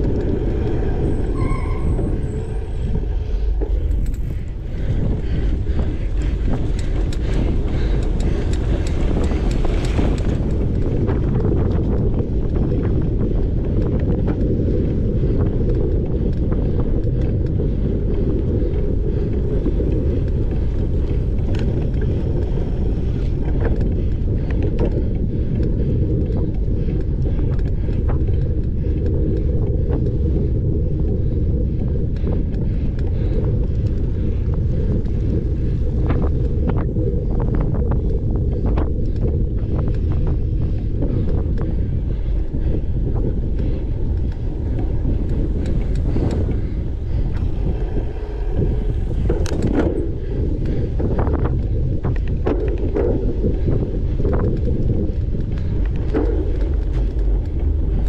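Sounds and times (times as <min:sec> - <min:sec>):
bike clicks and rattles: 0:00.0 - 0:58.0
wind on camera microphone: 0:00.0 - 0:58.0.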